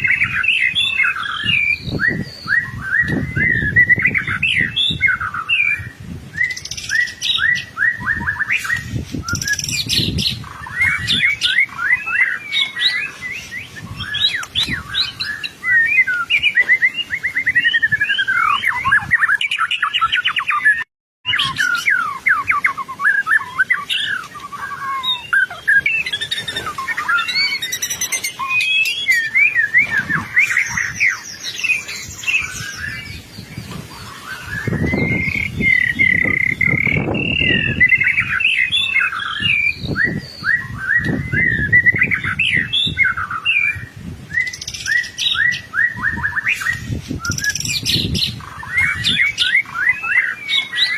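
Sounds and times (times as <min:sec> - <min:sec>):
songbird whistles and trills: 0:00.0 - 0:50.9.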